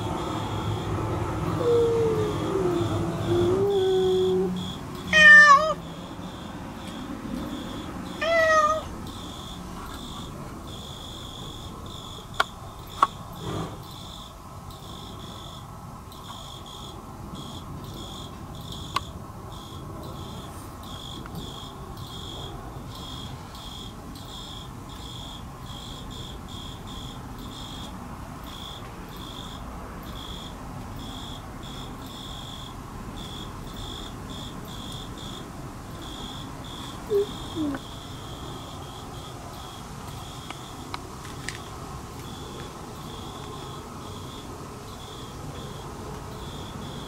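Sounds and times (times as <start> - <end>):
insect chirping: 0.0 - 47.0.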